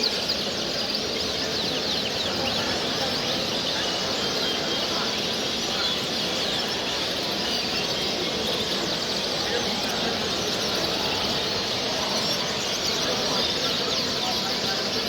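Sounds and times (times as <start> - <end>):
background hubbub: 0.0 - 15.0
cage birds chirping and trilling: 0.0 - 15.0.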